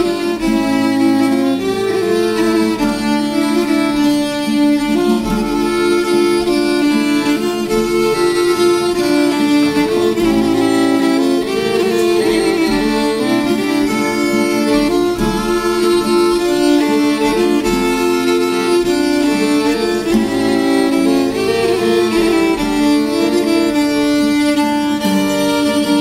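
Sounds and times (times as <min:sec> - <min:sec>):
fiddle melody: 0:00.0 - 0:26.0.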